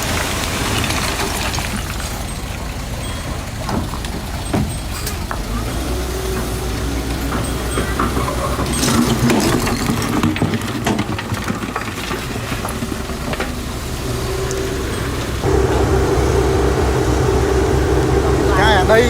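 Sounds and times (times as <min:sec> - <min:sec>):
heavy machine engine running: 0:00.0 - 0:19.0
knocks and clatter: 0:00.0 - 0:19.0.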